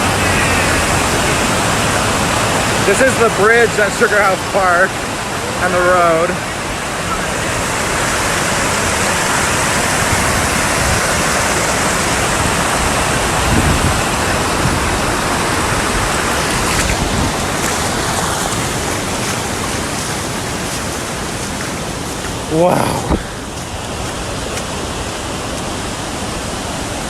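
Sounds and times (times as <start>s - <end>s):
flood water rushing: 0.0s - 27.0s.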